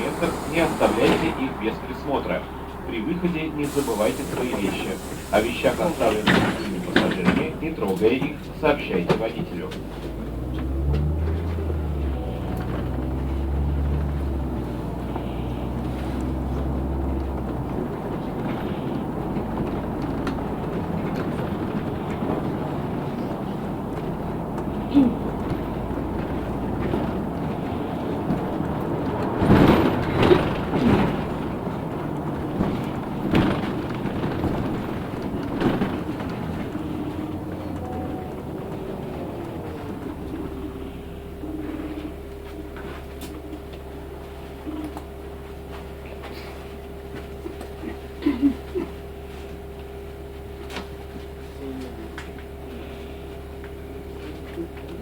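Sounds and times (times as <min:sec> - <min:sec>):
bus engine droning inside cabin: 0:00.0 - 0:55.0.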